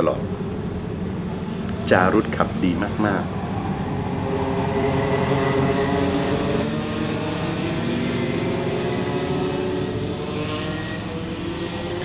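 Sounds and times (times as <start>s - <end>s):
kart engines whining at high revs: 0.2s - 12.0s.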